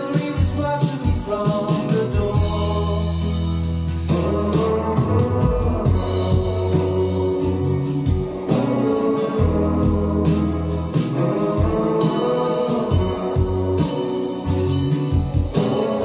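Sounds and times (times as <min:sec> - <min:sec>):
guitar: 0:00.0 - 0:16.0
deep bass notes: 0:02.2 - 0:16.0.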